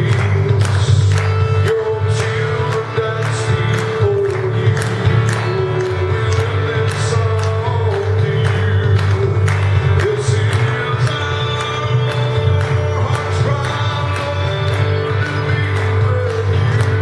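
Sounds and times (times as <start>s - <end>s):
bass line: 0.0s - 17.0s
steady drum beat: 0.0s - 17.0s
people singing worship music: 2.2s - 17.0s.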